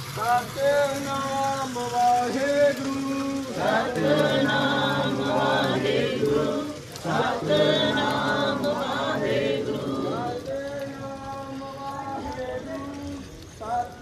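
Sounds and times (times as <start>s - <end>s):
group chanting a hymn: 2.2s - 14.0s.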